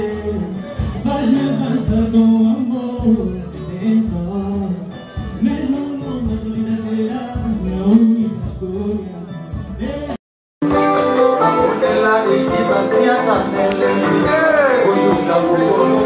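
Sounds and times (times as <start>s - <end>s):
acoustic guitars: 0.0s - 16.0s
drums: 0.0s - 16.0s
man singing: 0.0s - 16.0s.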